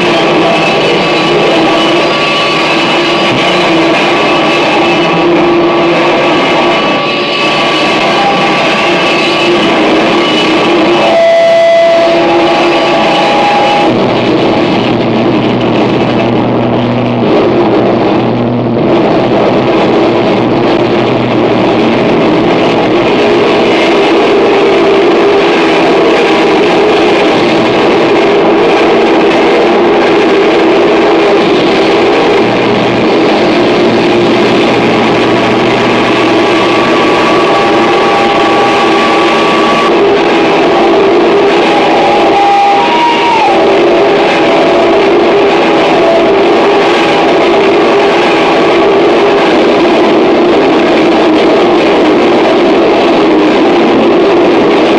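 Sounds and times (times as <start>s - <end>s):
steady held tones: 0.0s - 30.0s, 30.7s - 50.5s
harsh noise music distortion: 0.0s - 54.9s
low hum: 0.0s - 54.9s.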